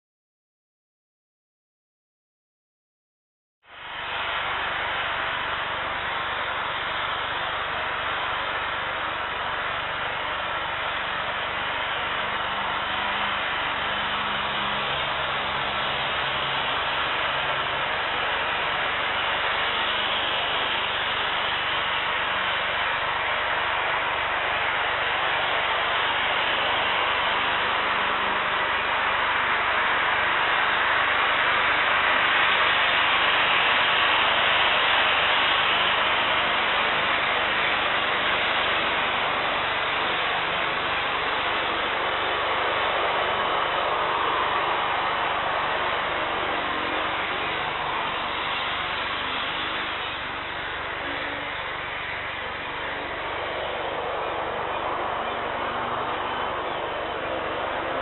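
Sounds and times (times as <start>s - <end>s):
airport apron rushing hiss: 3.8s - 58.0s.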